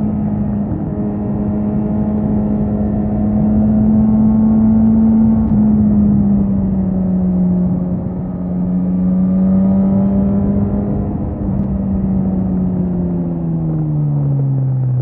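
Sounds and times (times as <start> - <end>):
motorcycle engine at high revs: 0.0 - 13.9.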